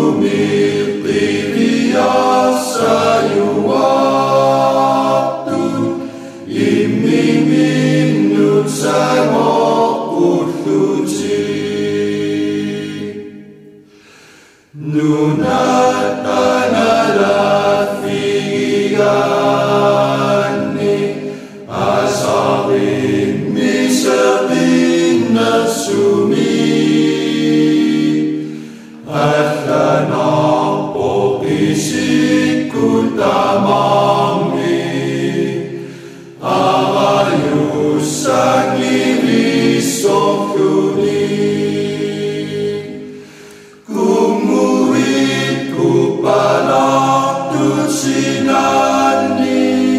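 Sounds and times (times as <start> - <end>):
voices singing slow phrases: 0.0 - 49.9.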